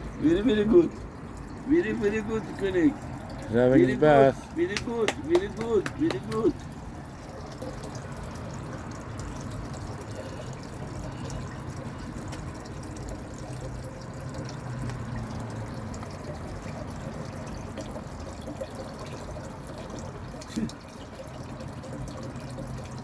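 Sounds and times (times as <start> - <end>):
drips and small splashes: 0.0 - 23.0
water pouring: 0.0 - 23.0.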